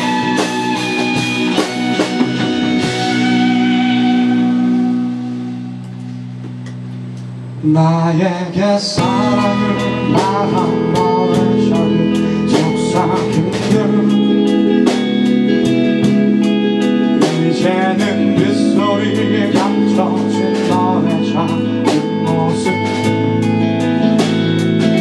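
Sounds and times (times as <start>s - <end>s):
live band with electric guitar: 0.0s - 7.6s, 8.6s - 25.0s.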